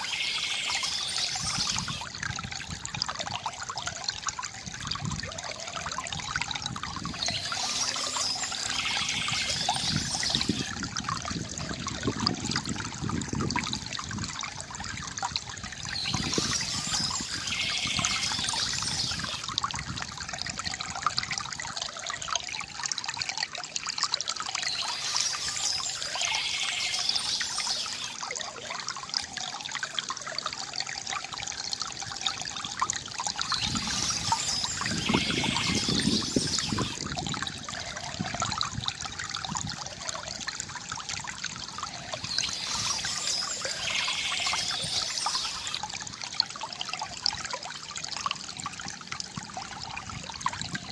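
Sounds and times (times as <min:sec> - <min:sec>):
water trickling from bamboo fountain: 0:00.0 - 0:50.9.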